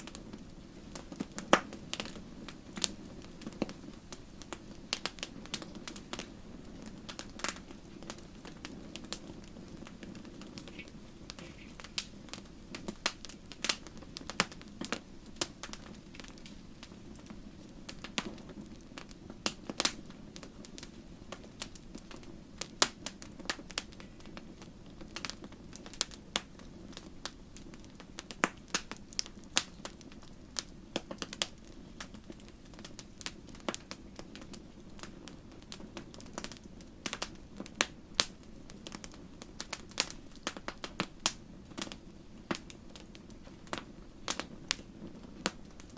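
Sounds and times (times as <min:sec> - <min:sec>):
campfire crackling and popping: 0:00.0 - 0:45.9
low rush of flame: 0:00.0 - 0:45.9.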